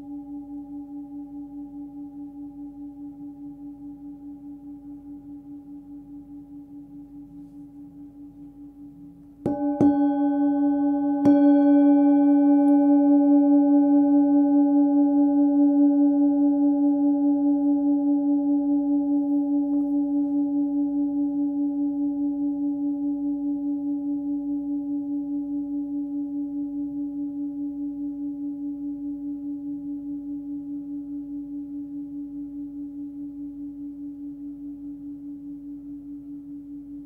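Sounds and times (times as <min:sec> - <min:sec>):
singing bowl ringing with wobble: 0:00.0 - 0:36.4.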